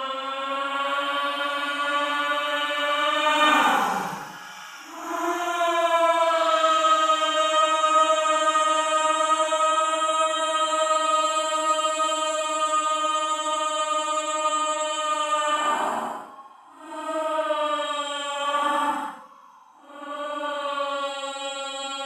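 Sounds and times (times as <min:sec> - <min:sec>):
ghostly voice-like wail: 0:00.0 - 0:10.2, 0:14.1 - 0:22.0.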